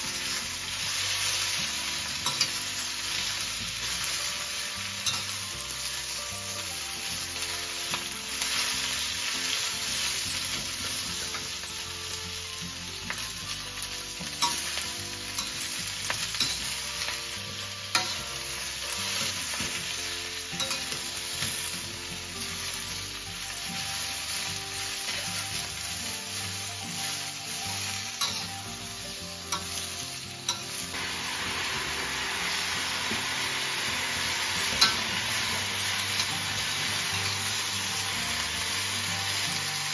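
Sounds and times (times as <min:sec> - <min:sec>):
cabbage sizzling in a wok: 0:00.0 - 0:39.9.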